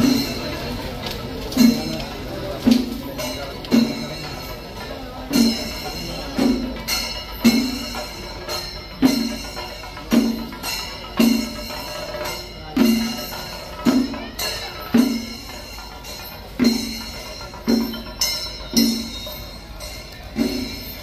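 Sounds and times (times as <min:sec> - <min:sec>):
heavy drum strokes: 0:00.0 - 0:21.0
metal cymbals ringing: 0:00.0 - 0:21.0.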